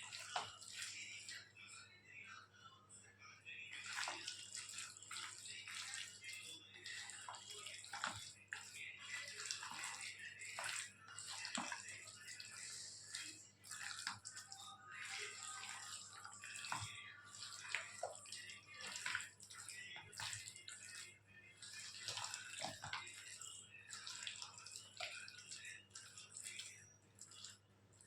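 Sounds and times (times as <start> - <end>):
wet squishing of hands mixing: 0.0 - 2.0, 3.6 - 28.0.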